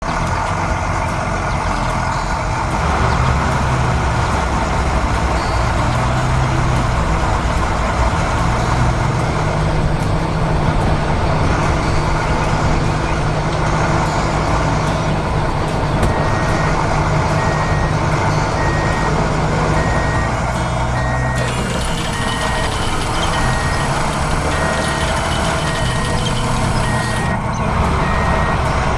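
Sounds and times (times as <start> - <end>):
heavy truck engine rumbling: 0.0 - 28.9
reversing alarm beeping: 1.9 - 28.9.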